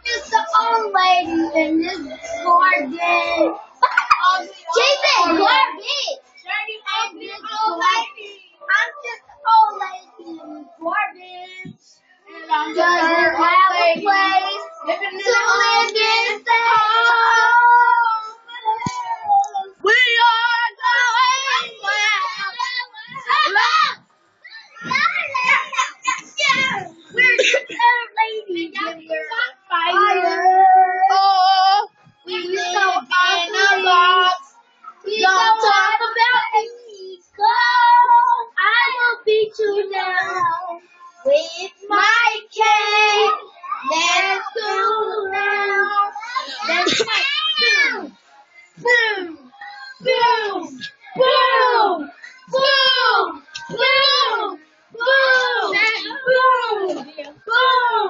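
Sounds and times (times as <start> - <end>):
child singing pop-style: 0.0 - 23.9, 24.7 - 48.1, 48.8 - 58.0.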